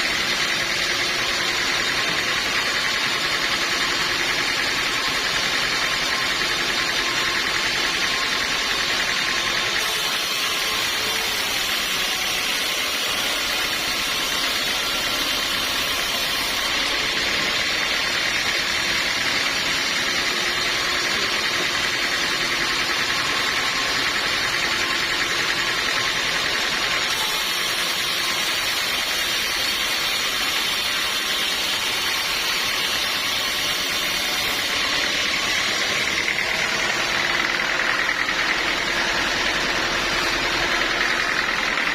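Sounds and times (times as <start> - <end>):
sawmill machine running: 0.0 - 41.9.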